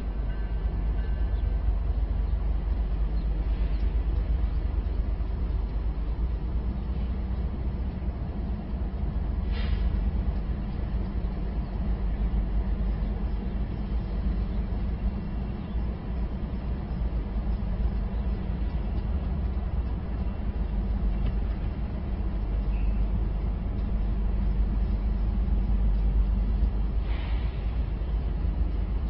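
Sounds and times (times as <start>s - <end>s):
low rumble of city noise: 0.0s - 29.0s.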